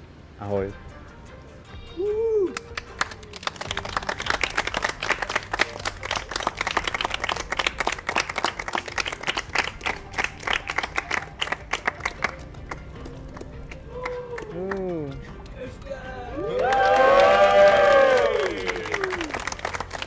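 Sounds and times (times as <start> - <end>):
people clapping: 2.5 - 20.0.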